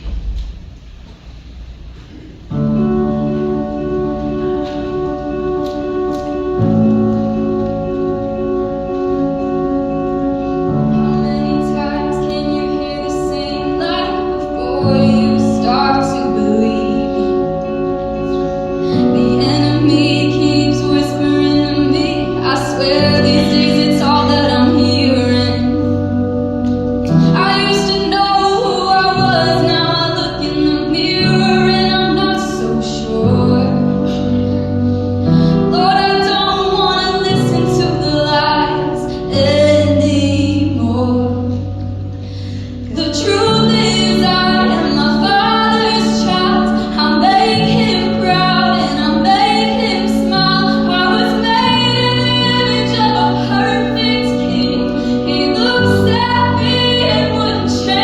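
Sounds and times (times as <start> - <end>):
instrumental accompaniment: 0.0 - 58.0
woman singing gospel: 10.9 - 58.0.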